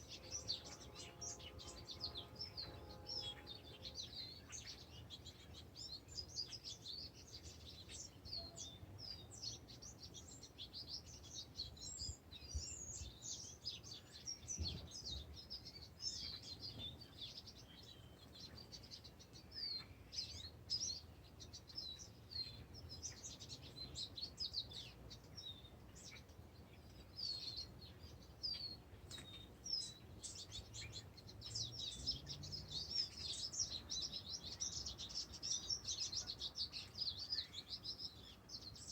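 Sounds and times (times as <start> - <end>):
birds chirping in chorus: 0.0 - 38.9.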